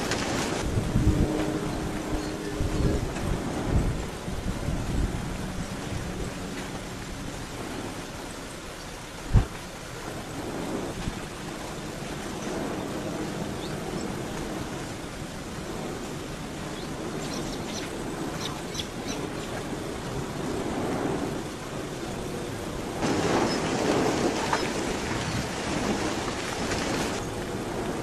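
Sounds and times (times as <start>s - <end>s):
lava flow rushing: 0.0s - 28.0s.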